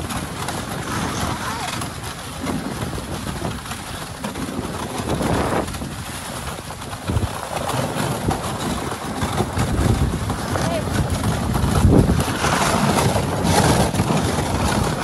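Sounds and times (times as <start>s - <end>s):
sled runners scraping over snow: 0.0s - 15.0s.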